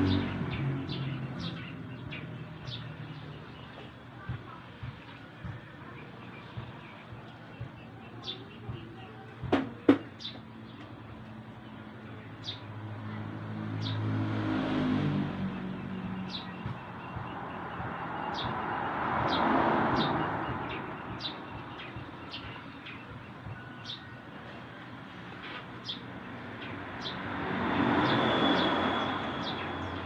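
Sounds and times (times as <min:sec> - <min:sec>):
bird chirping: 0:00.0 - 0:12.8, 0:15.4 - 0:24.6, 0:25.8 - 0:30.0
vehicles passing: 0:00.0 - 0:30.0.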